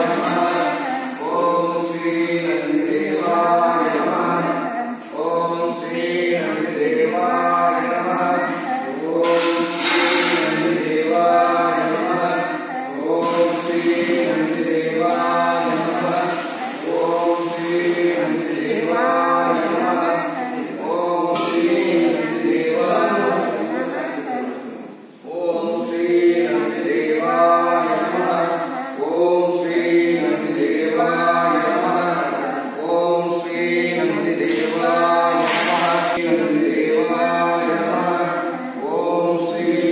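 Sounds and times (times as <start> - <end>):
voices chanting a mantra: 0.0 - 39.9.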